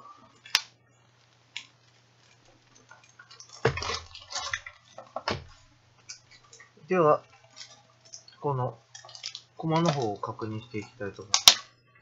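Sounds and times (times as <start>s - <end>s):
plastic bag crinkling: 0.3s - 11.8s.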